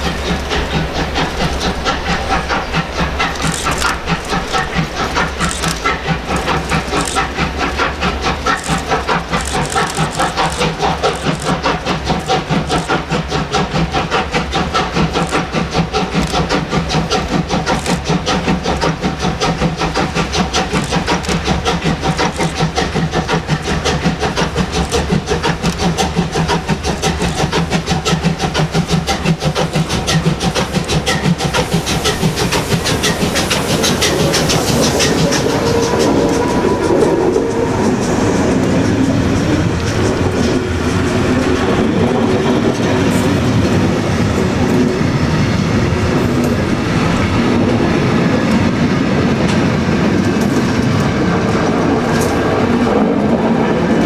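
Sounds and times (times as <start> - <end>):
steam hissing: 0.0 - 54.0
steam locomotive exhaust beating: 0.0 - 54.0.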